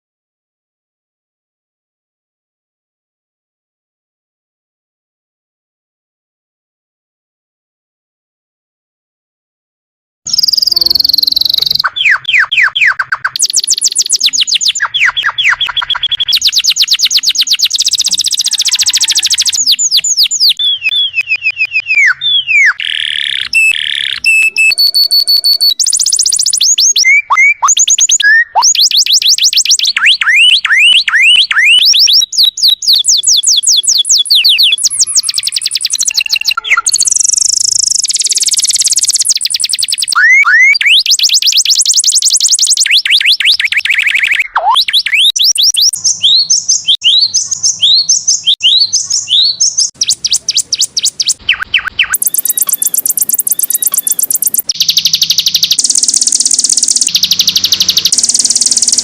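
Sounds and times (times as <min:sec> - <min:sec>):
canary singing trills: 0:10.3 - 0:59.0.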